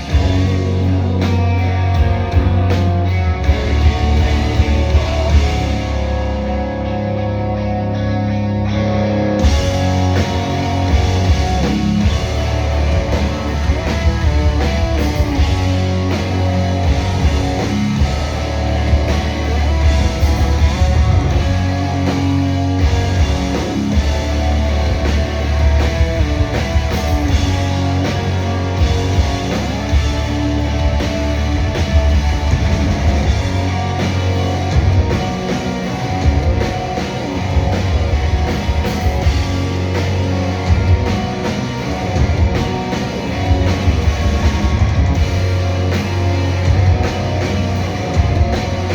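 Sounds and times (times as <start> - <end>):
drum kit: 0.0 - 7.7, 8.8 - 48.9
bass guitar: 0.0 - 48.9
electric guitars: 0.0 - 48.9.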